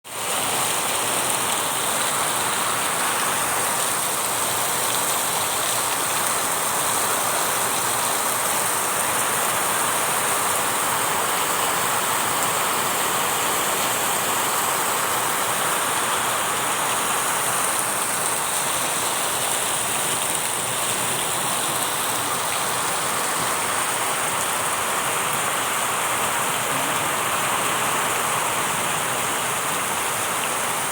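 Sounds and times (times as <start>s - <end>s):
steady rain falling: 0.1s - 30.9s.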